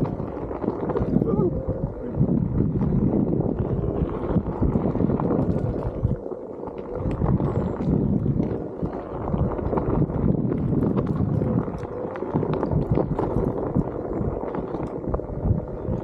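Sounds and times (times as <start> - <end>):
grit and stones ticking: 0.0 - 16.0
tyre rumbling over dirt: 0.0 - 16.0.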